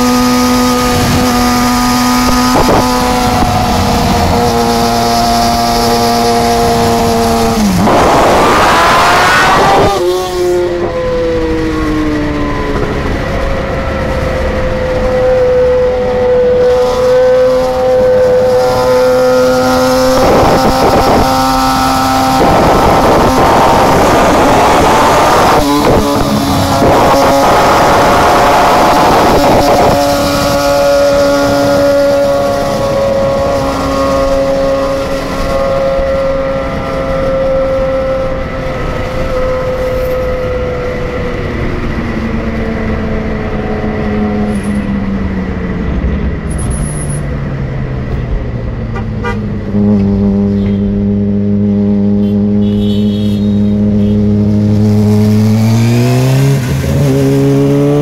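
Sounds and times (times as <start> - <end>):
motorcycle engine revving: 0.0 - 47.8, 48.4 - 58.0.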